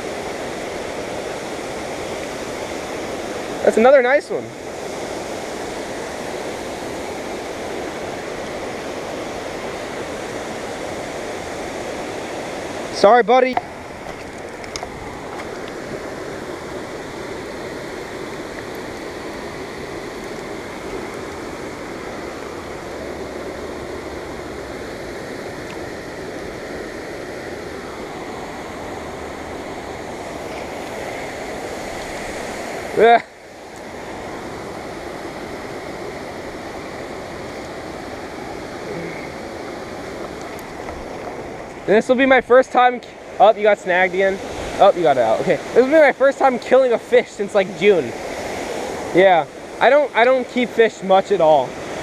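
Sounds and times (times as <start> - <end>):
creek water rushing: 0.0 - 52.0.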